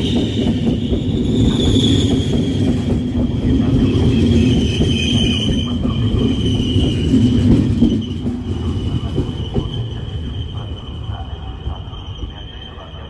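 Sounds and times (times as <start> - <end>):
high wheel squeal: 0.0 - 13.0
train wheels rumbling on rails: 0.0 - 13.0.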